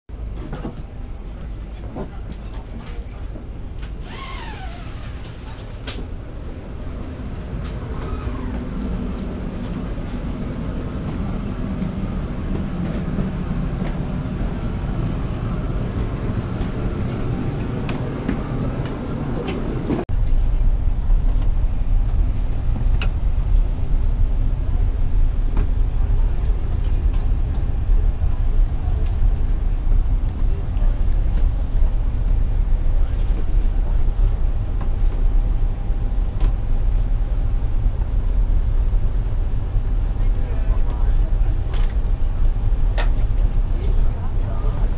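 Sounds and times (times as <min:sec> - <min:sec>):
aircraft cabin rumble: 0:00.1 - 0:44.9
deep flight deck rumble: 0:00.1 - 0:44.9.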